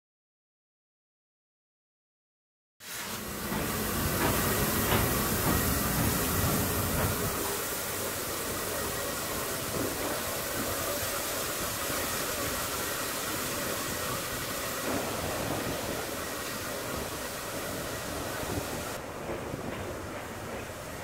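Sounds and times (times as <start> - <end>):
steam hissing: 2.8 - 21.0
steam locomotive running: 2.8 - 21.0.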